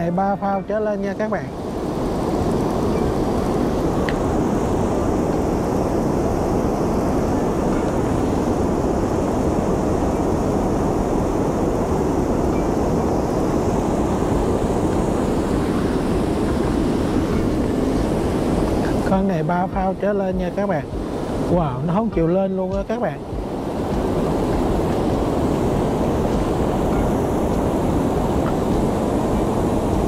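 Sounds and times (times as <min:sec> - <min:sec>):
river water washing around boat: 0:00.0 - 0:30.0
wind rumble on microphone: 0:00.0 - 0:30.0.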